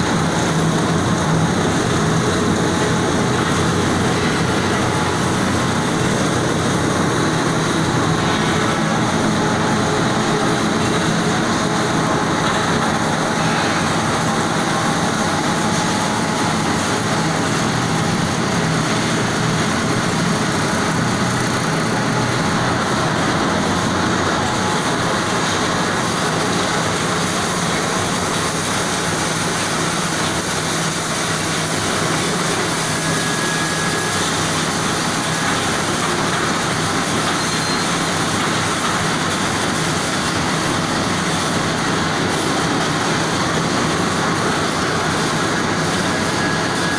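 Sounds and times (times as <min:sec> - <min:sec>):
wire drawing machine running: 0:00.0 - 0:46.9.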